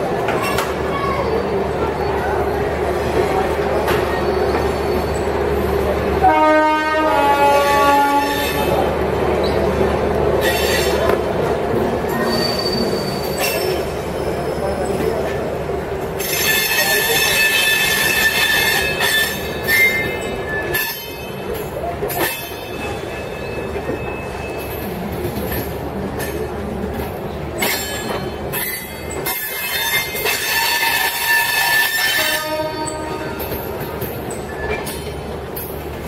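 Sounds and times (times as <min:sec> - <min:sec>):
rumble of moving train coaches: 0:00.0 - 0:36.0
train wheels squealing on rails: 0:00.1 - 0:06.2, 0:07.6 - 0:26.6, 0:27.2 - 0:36.0.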